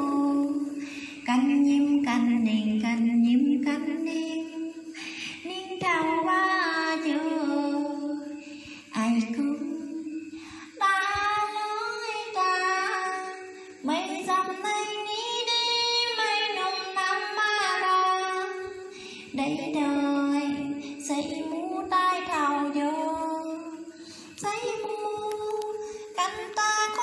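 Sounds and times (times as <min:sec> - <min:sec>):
woman singing into microphone: 0:00.0 - 0:27.0.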